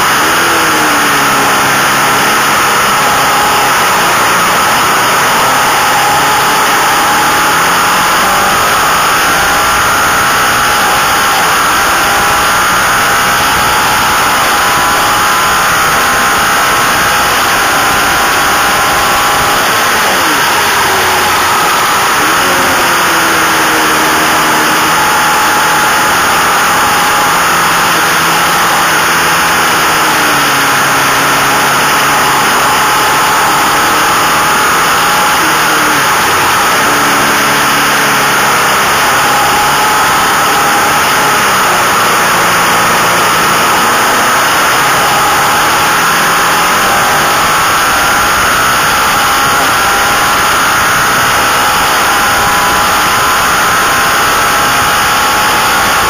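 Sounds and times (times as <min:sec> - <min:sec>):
motorcycle engine pulling hard: 0:00.0 - 0:56.0.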